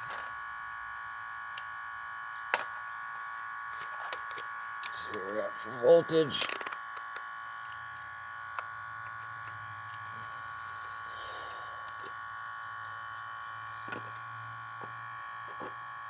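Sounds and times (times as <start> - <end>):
electrical buzz and whine: 0.0 - 16.0.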